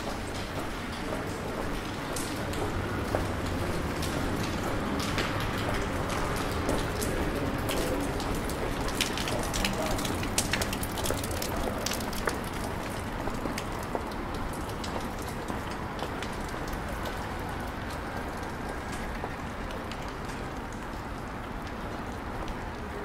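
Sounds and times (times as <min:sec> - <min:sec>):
drops ticking on an umbrella: 0:00.0 - 0:23.0
steady rain: 0:00.0 - 0:23.0.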